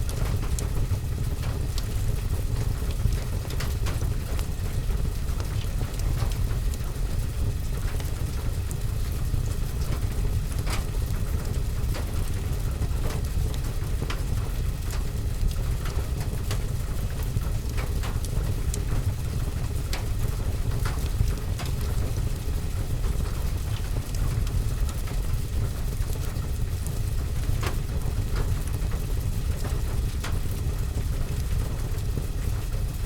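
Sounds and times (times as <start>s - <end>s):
fire crackling and popping: 0.0s - 33.0s
rain on roof and window: 0.0s - 33.0s.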